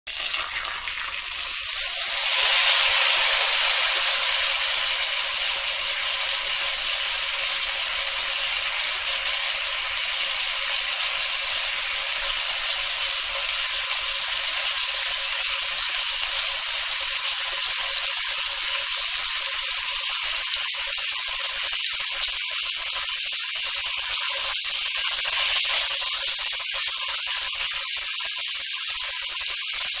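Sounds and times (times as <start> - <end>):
meat sizzling on a grill: 0.1 - 30.0.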